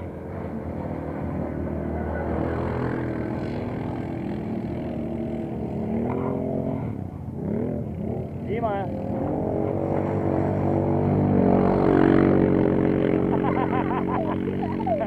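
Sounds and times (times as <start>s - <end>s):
quad bike engine revving: 0.0s - 15.0s
quad bike engines running: 0.0s - 15.0s.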